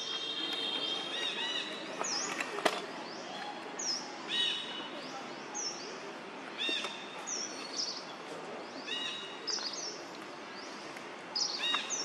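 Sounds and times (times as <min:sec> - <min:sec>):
birds chirping: 0:00.0 - 0:12.0
steady outdoor hiss: 0:00.0 - 0:12.0.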